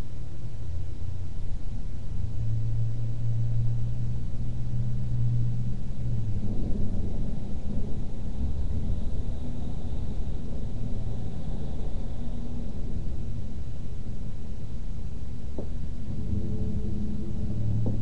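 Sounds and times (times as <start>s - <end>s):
distant thunder rumbling: 3.4s - 18.0s.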